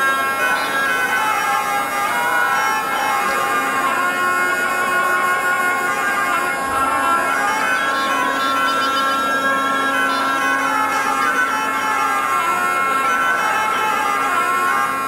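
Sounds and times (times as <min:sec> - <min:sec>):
high wavering reed melody: 0:00.0 - 0:15.0
reed wind instruments drone: 0:00.0 - 0:15.0.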